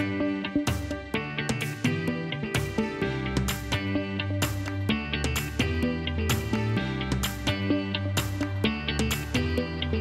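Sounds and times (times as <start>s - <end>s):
plucked guitar over a beat: 0.0s - 10.0s.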